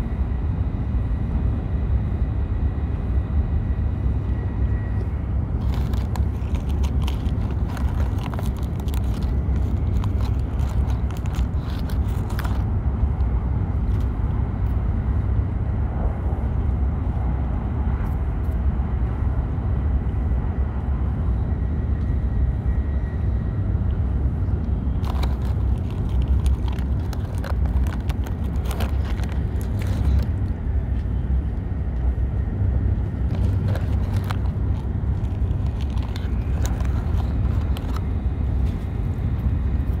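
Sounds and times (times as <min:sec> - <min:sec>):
train rumble inside cabin: 0:00.0 - 0:40.0.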